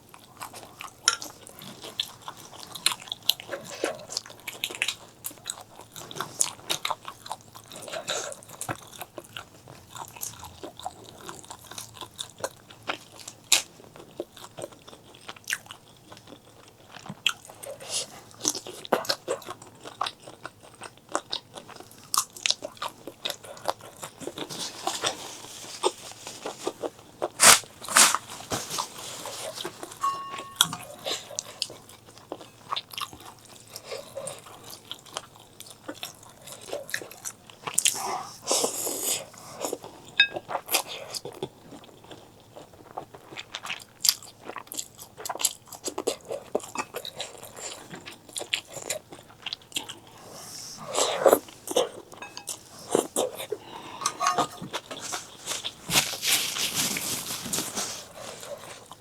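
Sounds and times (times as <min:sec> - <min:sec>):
biting and chewing food: 0:00.0 - 0:59.0.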